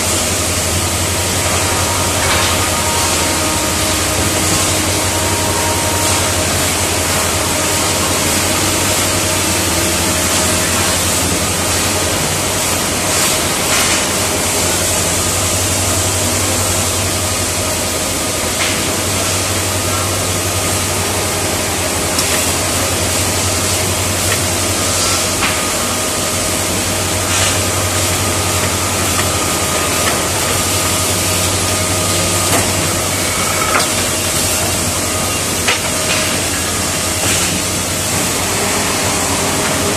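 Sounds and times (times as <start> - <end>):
constant low hum: 0.0 - 39.9
machine line running: 0.0 - 39.9.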